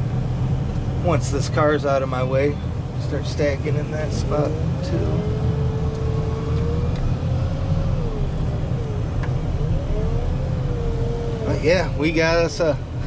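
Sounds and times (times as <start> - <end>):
diesel engine droning: 0.0 - 13.0
engine whine: 0.0 - 13.0.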